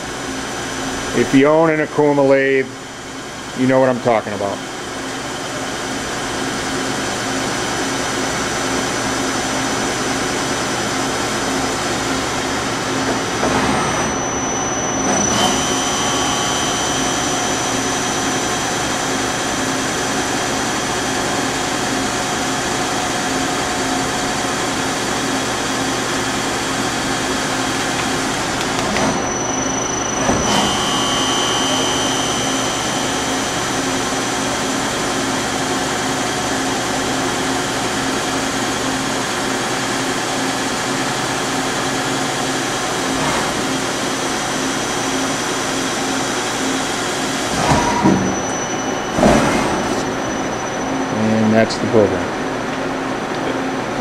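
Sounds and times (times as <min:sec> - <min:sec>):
high machine whine: 0:00.0 - 0:54.0
lathe mechanical hum and whir: 0:00.0 - 0:54.0.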